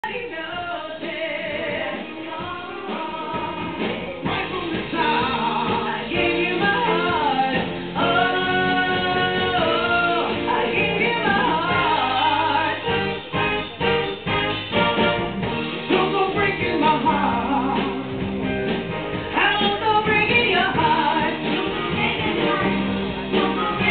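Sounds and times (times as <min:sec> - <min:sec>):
man and woman singing duet: 0:00.0 - 0:13.6, 0:15.9 - 0:18.3, 0:19.3 - 0:23.9
instrumental accompaniment: 0:01.0 - 0:23.9.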